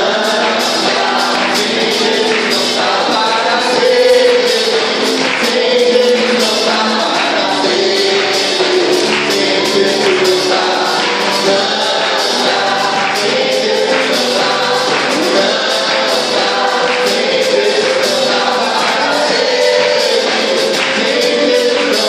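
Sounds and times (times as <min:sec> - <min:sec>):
band playing: 0:00.0 - 0:22.0
group singing gospel: 0:00.0 - 0:22.0
rhythmic tambourine: 0:00.0 - 0:22.0.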